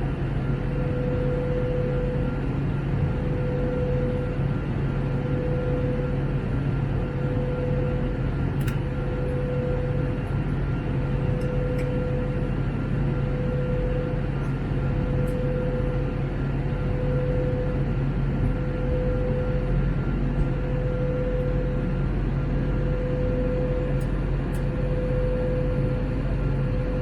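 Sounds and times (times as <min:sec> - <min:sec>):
aircraft engine and airflow drone: 0:00.0 - 0:27.0.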